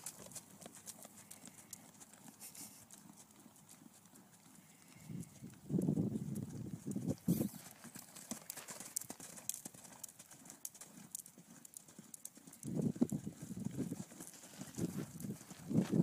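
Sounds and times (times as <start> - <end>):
horse hoofbeats on soft dirt: 0.0 - 16.0.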